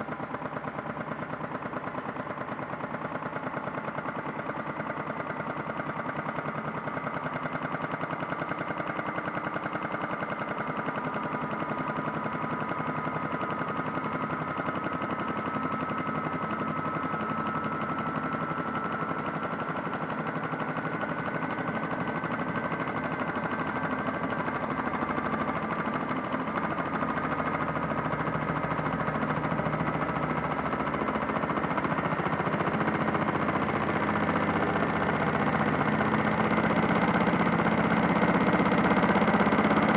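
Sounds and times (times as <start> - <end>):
fast continuous rattle: 0.1 - 39.9.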